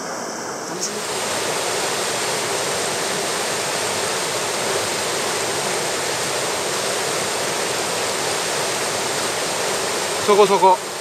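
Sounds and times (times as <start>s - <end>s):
stream running over stones: 0.7s - 11.0s.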